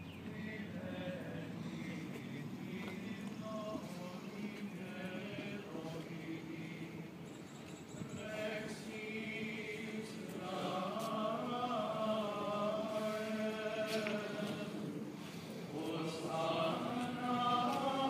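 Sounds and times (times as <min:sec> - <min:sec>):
men chanting in unison: 0:00.2 - 0:07.2, 0:08.0 - 0:18.0.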